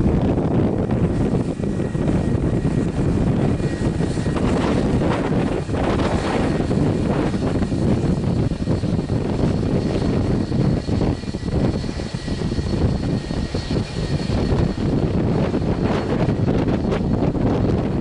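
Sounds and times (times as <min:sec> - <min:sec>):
jet engines rumbling and whining: 0:00.0 - 0:18.0
wind buffeting microphone: 0:00.0 - 0:18.0.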